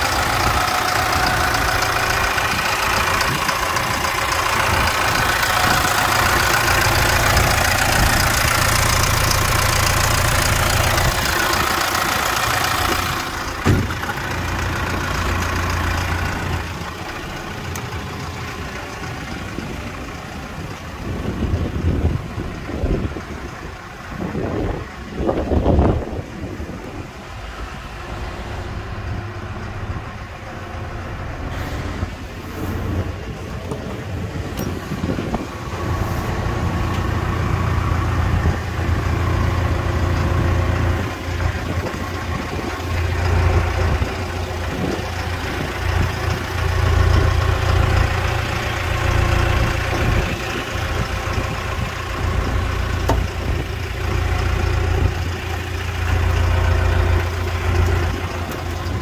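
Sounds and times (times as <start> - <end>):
excavator diesel engine idling: 0.0 - 59.0.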